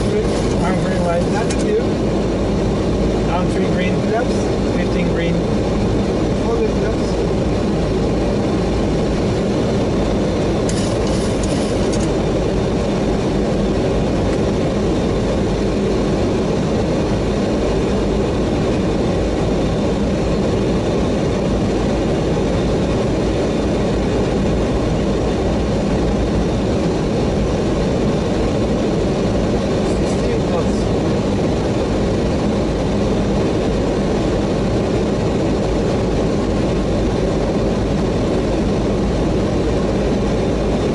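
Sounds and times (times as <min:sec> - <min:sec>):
rumble of airflow and engines: 0:00.0 - 0:40.9.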